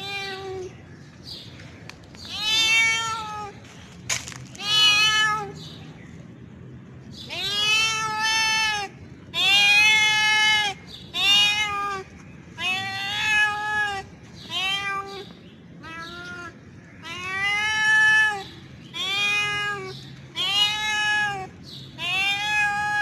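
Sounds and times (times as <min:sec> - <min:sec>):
cat meowing loudly: 0:00.0 - 0:00.7, 0:02.3 - 0:03.6, 0:04.6 - 0:05.6, 0:07.3 - 0:23.0.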